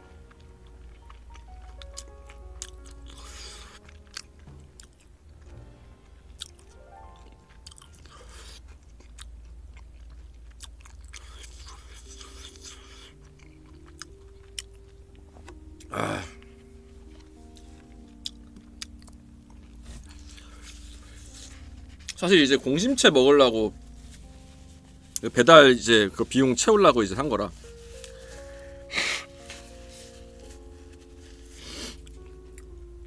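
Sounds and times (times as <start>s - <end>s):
crunchy food chewing: 0.0s - 5.5s, 6.3s - 22.3s, 23.2s - 32.8s
background music sustained notes: 0.0s - 33.0s.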